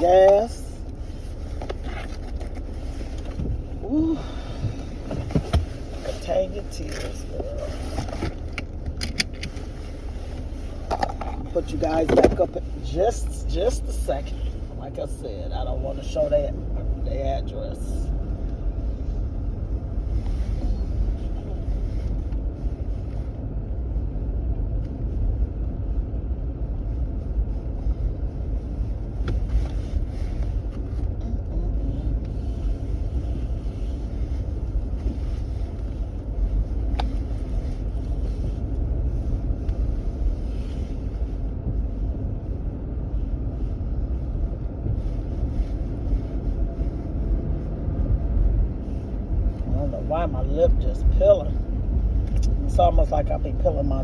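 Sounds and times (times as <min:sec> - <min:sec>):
car interior rumble: 0:00.0 - 0:54.0.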